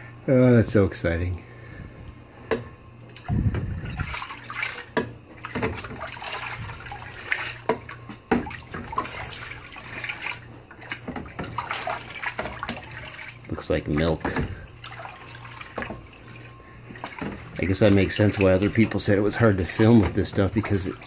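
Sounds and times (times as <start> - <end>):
water sloshing in plastic tray: 2.5 - 21.0.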